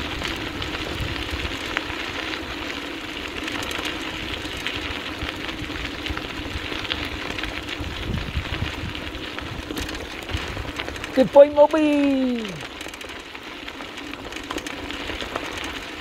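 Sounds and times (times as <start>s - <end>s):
small clicks and rattles: 0.0s - 16.0s
wheels rolling on dirt: 0.0s - 16.0s.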